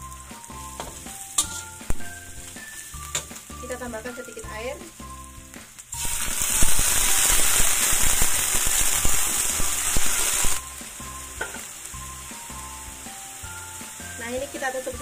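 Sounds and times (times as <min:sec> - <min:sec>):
water sizzling in hot oil: 0:00.0 - 0:15.0.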